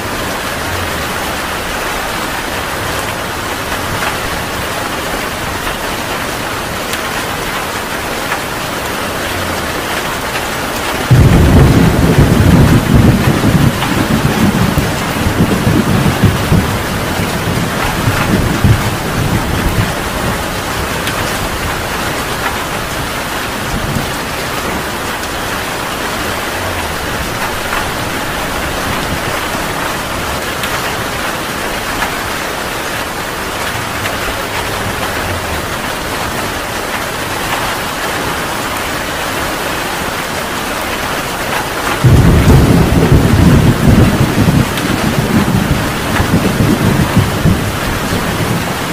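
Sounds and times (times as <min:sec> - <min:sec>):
thunder rumbling: 0:00.0 - 0:38.0, 0:41.4 - 0:48.9
heavy rain: 0:00.0 - 0:48.9.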